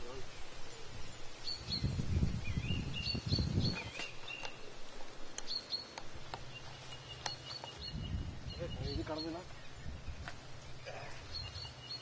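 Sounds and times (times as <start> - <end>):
small birds chirping and whistling: 0.0 - 12.0.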